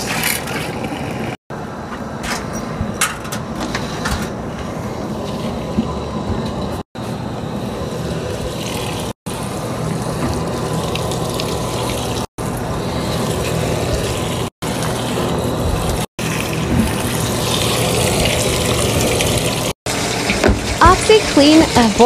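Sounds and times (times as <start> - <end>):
water filling washing machine: 0.0 - 22.0.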